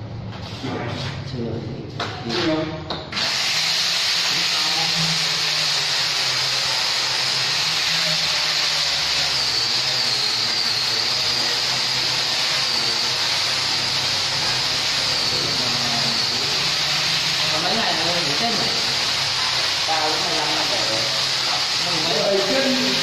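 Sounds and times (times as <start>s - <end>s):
loud steady hissing: 3.2s - 23.0s.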